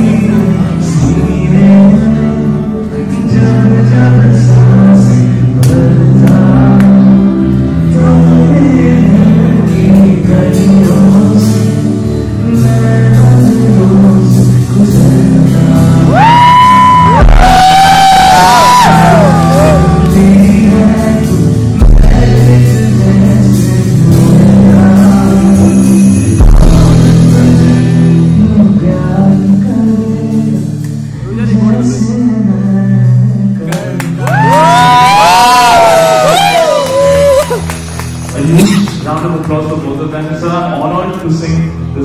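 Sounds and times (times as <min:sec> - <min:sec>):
man singing into microphone: 0:00.0 - 0:37.6
live band playing: 0:00.0 - 0:42.0.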